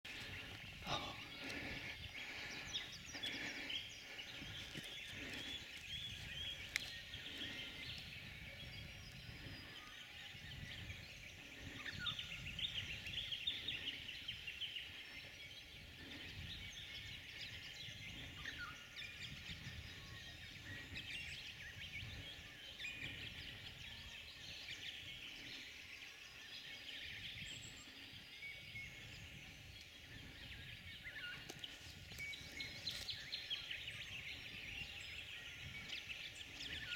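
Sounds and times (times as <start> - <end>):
birds chirping and calling: 0.1 - 36.9.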